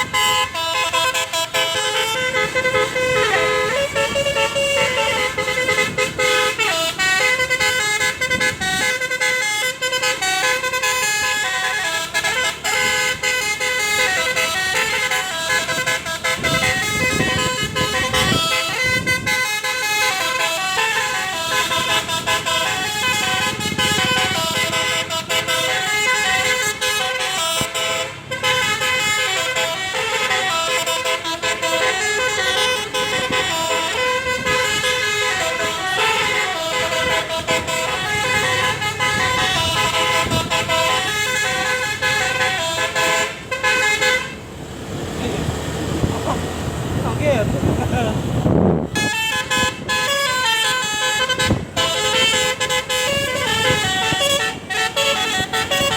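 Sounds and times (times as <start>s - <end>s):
musical air horn melody: 0.0s - 44.4s, 48.8s - 55.9s
bus engine running: 0.0s - 55.9s.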